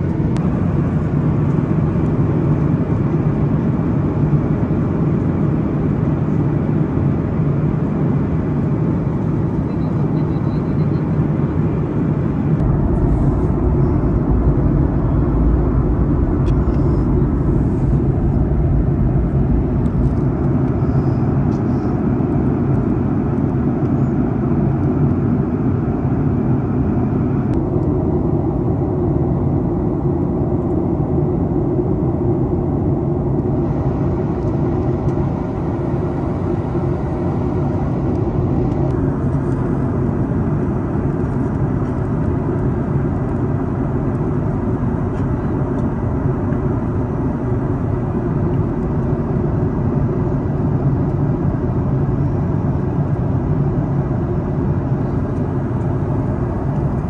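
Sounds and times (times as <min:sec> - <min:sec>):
jet cabin rumble: 0:00.0 - 0:57.0.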